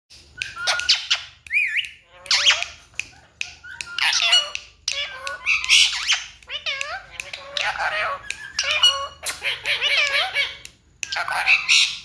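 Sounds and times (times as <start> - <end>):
parrot squawking and chattering: 0.2 - 12.0.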